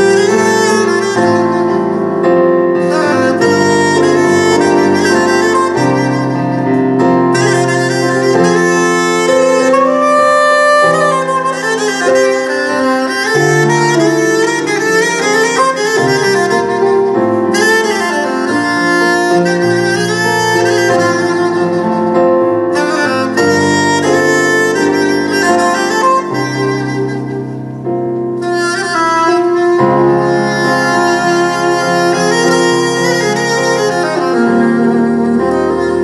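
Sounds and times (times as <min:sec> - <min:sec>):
instrumental accompaniment: 0:00.0 - 0:36.0
wind instrument melody: 0:00.0 - 0:36.0.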